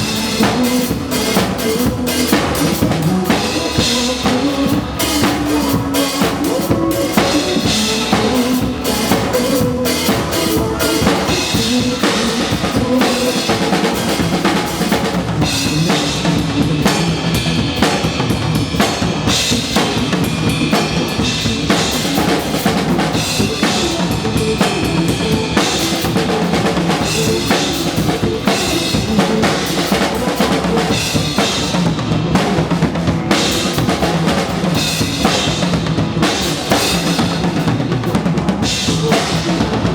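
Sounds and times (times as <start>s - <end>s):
recorded backing music: 0.0s - 39.9s.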